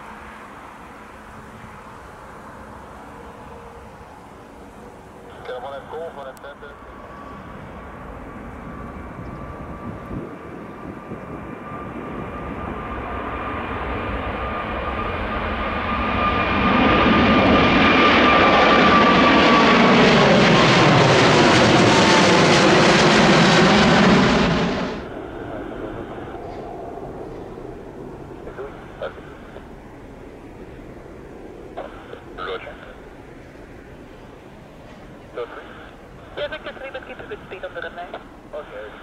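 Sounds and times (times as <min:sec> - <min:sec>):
jet engines roaring: 0:00.0 - 0:39.0
steady jet whine: 0:00.0 - 0:39.0.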